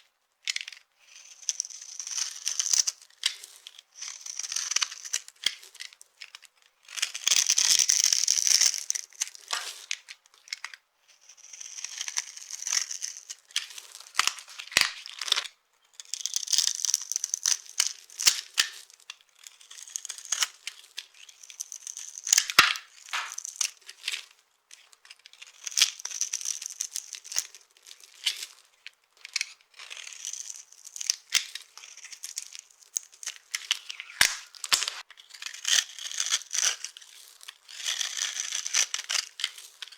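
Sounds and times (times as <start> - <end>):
soap crushed and crackling: 1.6 - 39.9.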